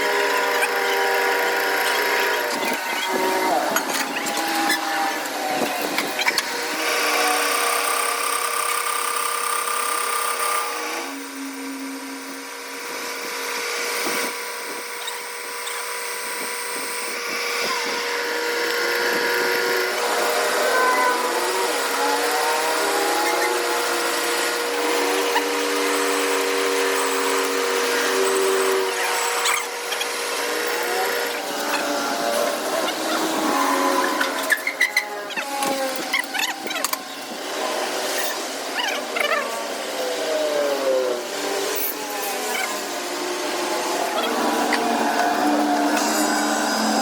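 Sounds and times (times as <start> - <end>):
power tool whining: 0.0 - 47.0.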